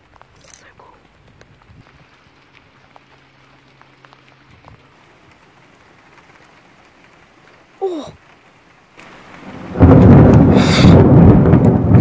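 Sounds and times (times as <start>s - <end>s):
water dripping: 0.0s - 11.8s
light rain hiss: 0.0s - 12.0s.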